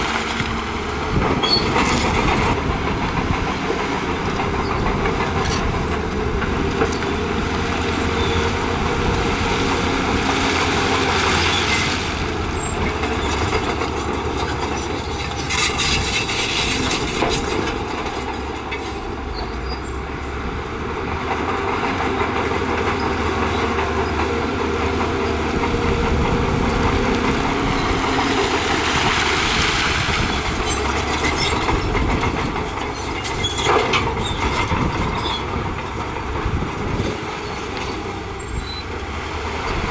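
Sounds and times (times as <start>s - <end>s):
bulldozer diesel engine running: 0.0s - 39.9s
clanking of steel tracks: 0.0s - 39.9s.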